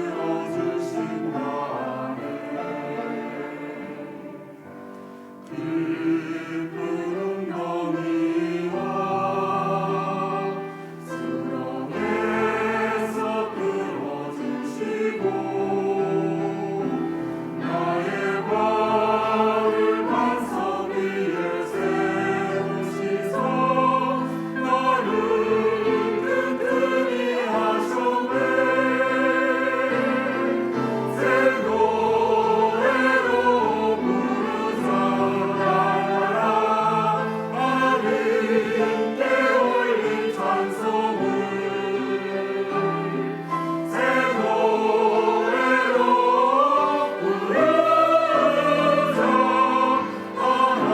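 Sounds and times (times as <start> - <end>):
church choir singing: 0.0 - 50.9.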